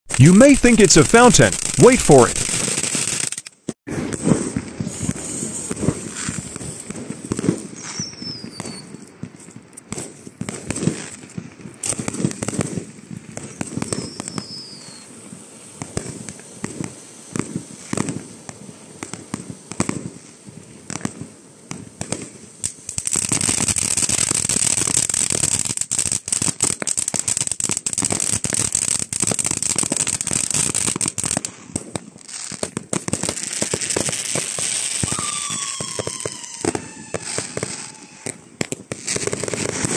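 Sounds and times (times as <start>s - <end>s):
firework fountain crackling and hissing: 0.1s - 39.9s.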